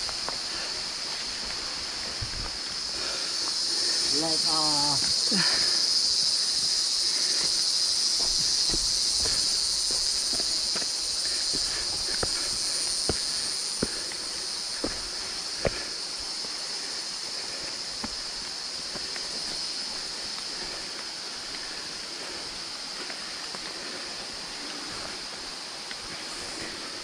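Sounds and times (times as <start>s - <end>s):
footsteps on dirt trail: 0.0s - 27.0s
insect chorus drone: 0.0s - 27.0s.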